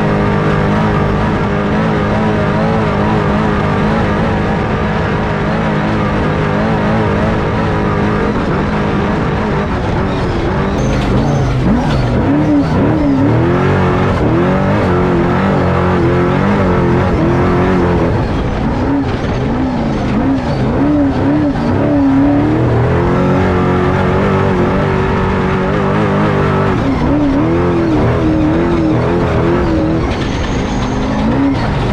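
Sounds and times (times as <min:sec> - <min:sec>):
truck engine revving: 0:00.0 - 0:31.9.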